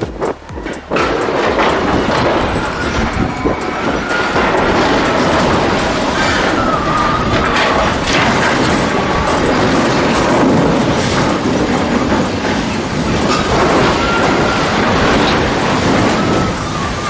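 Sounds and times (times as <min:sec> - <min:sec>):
heavy machinery rumble and clatter: 0:00.0 - 0:17.0
high metallic squeal: 0:00.0 - 0:17.0.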